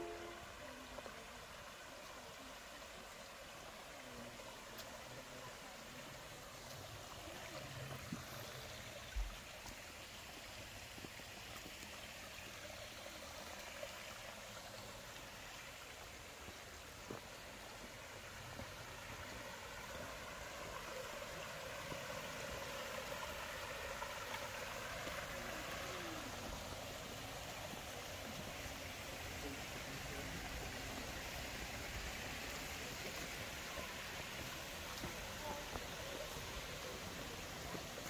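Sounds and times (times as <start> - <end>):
stream running over rocks: 0.0 - 38.0.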